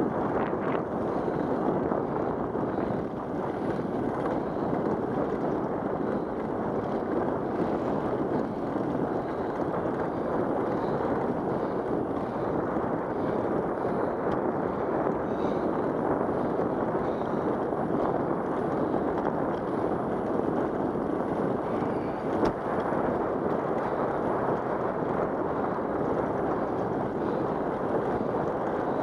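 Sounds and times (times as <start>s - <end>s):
bicycle tyre noise: 0.0s - 29.0s
wind on microphone: 0.0s - 29.0s.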